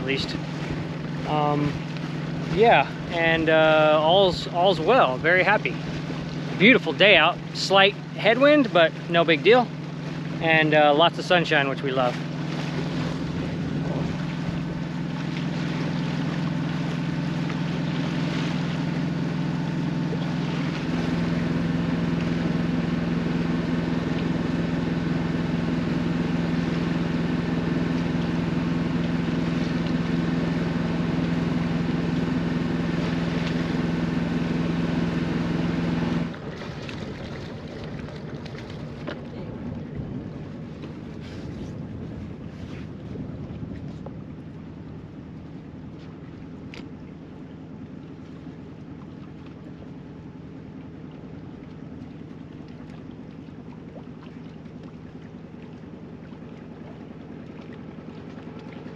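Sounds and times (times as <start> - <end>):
boat engine humming: 0.0 - 58.9
wind: 0.0 - 58.9.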